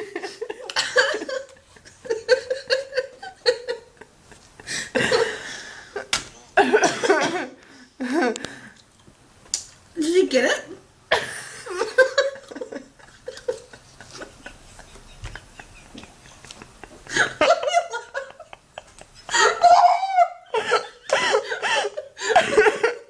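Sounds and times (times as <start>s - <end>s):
woman laughing hard: 0.0s - 8.4s, 11.1s - 23.0s.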